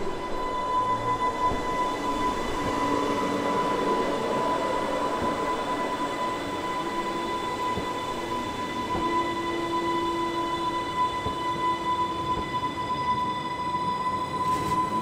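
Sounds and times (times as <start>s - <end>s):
high whine: 0.0s - 15.0s.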